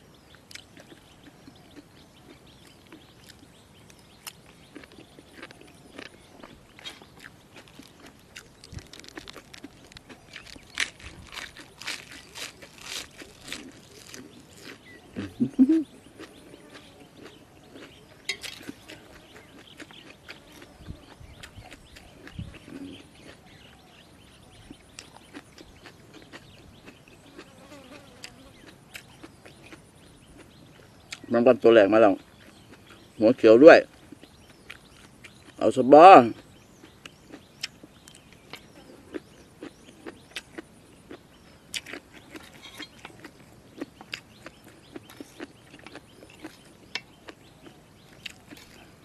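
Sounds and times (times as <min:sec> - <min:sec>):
chewing and crunching: 0:00.1 - 0:49.0.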